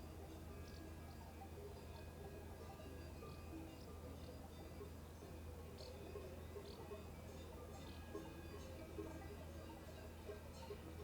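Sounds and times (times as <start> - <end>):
distant cowbells ringing: 0.0 - 11.0.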